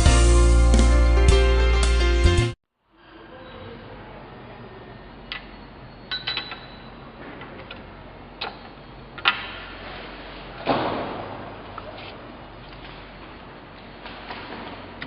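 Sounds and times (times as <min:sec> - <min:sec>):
low background hum: 0:02.8 - 0:15.0.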